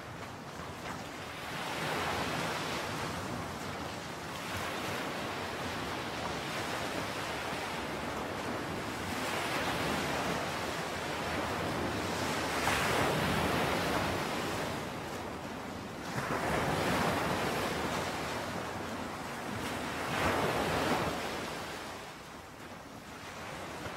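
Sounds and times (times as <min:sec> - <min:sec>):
sea waves breaking: 0:00.0 - 0:23.9.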